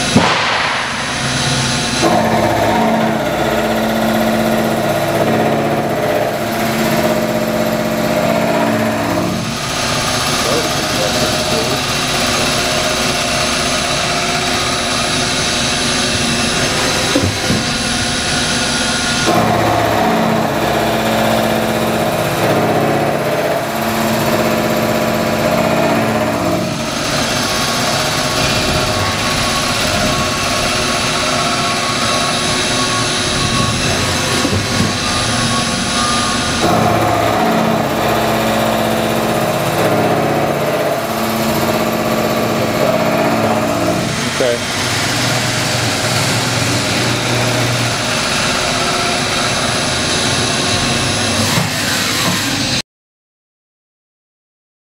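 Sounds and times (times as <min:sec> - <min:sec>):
milling machine cutting steel: 0:00.0 - 0:52.8.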